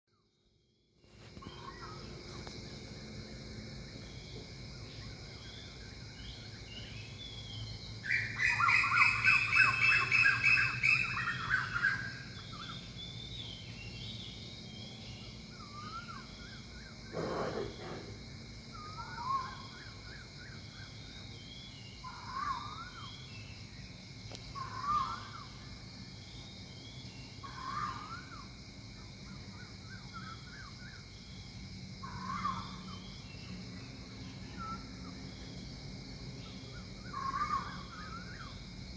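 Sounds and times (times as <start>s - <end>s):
high-pitched background hum: 1.1s - 38.9s.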